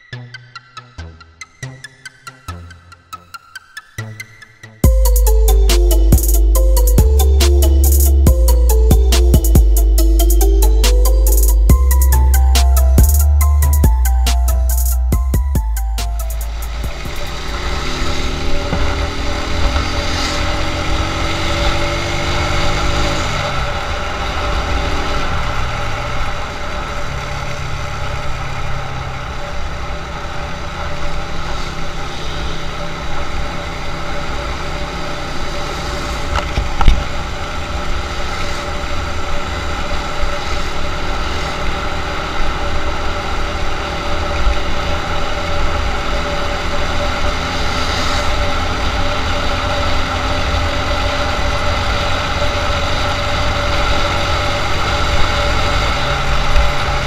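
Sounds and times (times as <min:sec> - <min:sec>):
motorcycle engine running: 0:04.8 - 0:57.0.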